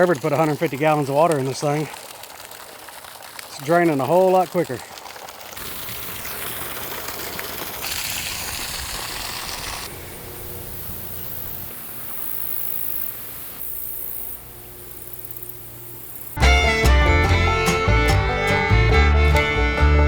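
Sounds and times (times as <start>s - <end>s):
water rushing into a pond: 0.0s - 16.2s.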